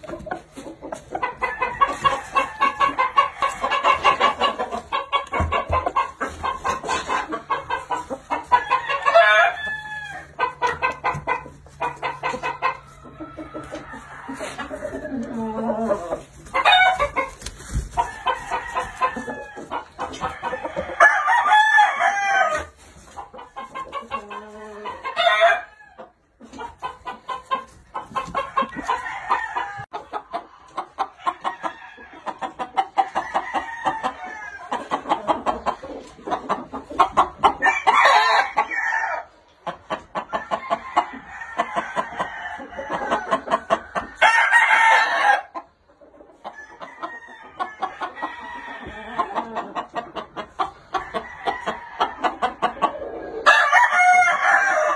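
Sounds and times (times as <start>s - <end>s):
chickens clucking rapidly: 0.0s - 54.9s
roosters crowing: 1.1s - 22.8s, 23.8s - 26.2s, 28.0s - 30.2s, 31.0s - 35.3s, 37.4s - 39.4s, 40.2s - 45.7s, 46.4s - 54.9s.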